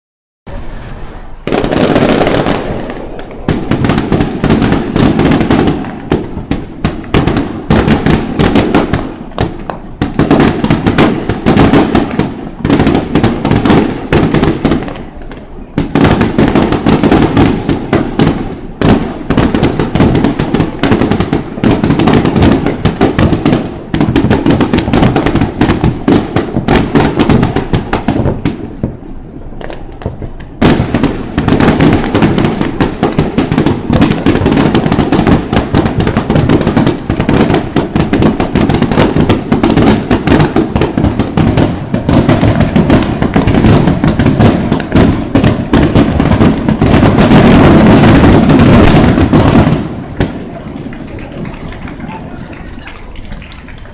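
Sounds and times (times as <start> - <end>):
fireworks bangs and pops: 0.5 - 53.9.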